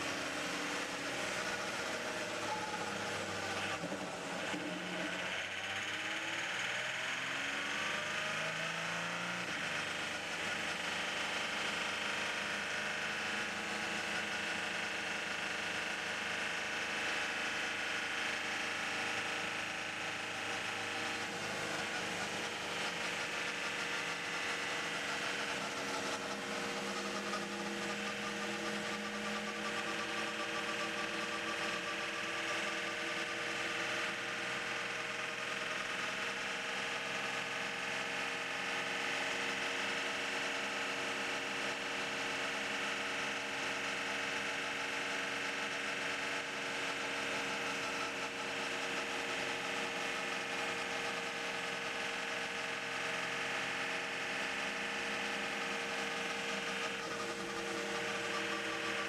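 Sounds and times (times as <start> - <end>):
race car engine at speed: 0.0 - 59.0.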